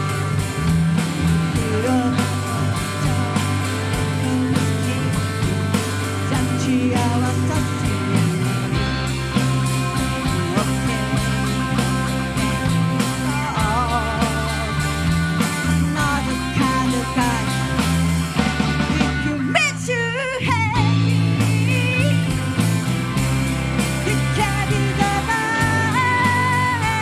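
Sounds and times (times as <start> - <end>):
drum kit: 0.0 - 27.0
electric bass: 0.0 - 27.0
electric guitars: 0.0 - 27.0.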